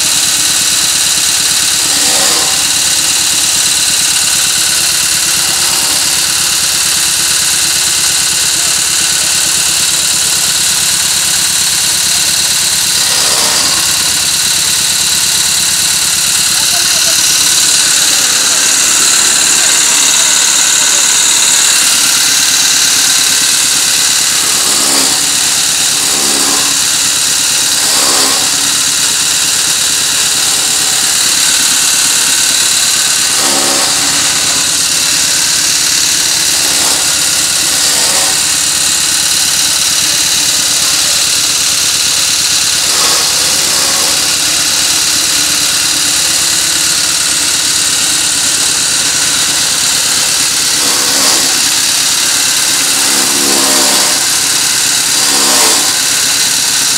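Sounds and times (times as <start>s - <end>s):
chaff cutter whirring: 0.0s - 56.9s
generator engine running: 0.0s - 56.9s
straw fed into cutter: 0.0s - 56.9s.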